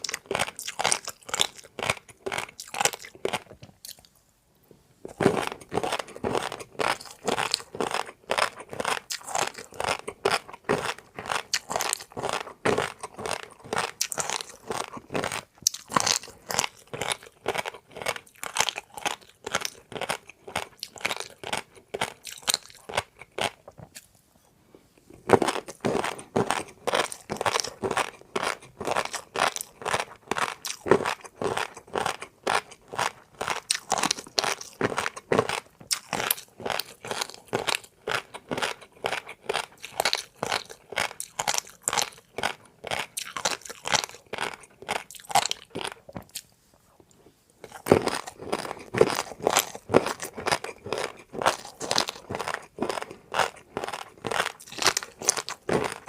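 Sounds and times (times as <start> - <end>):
person chewing crunchy food: 0.0 - 4.2, 5.0 - 56.0.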